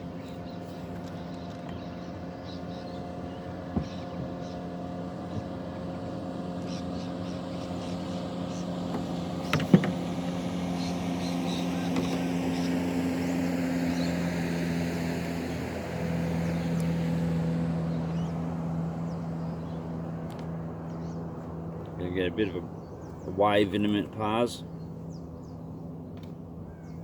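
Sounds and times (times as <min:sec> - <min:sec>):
motorboat engine droning: 0:00.0 - 0:27.0.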